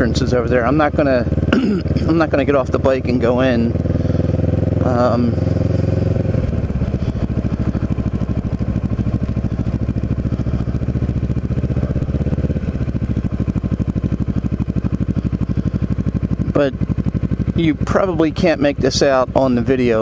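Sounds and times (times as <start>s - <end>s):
motorcycle engine pulsing: 0.0s - 20.0s.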